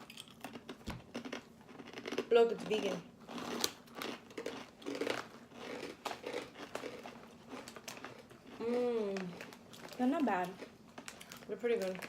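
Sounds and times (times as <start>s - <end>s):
crunchy cookies being chewed: 0.0s - 12.0s.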